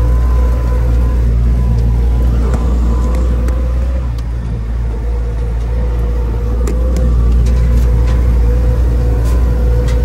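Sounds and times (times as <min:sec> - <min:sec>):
thin steady whine: 0:00.0 - 0:09.9
van engine and road rumble: 0:00.0 - 0:10.0.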